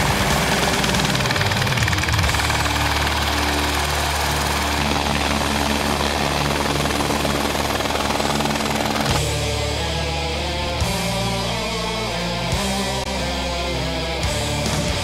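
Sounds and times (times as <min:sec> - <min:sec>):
helicopter engine and rotor whine: 0:00.0 - 0:15.0.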